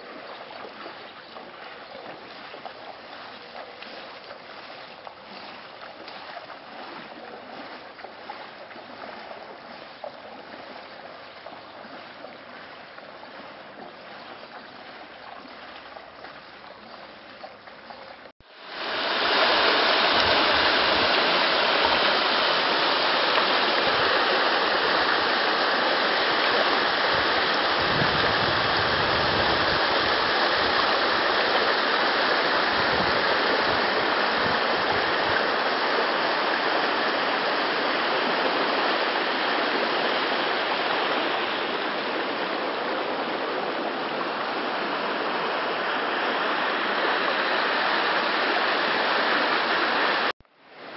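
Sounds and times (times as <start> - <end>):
fast-flowing water rushing: 0.0 - 50.9.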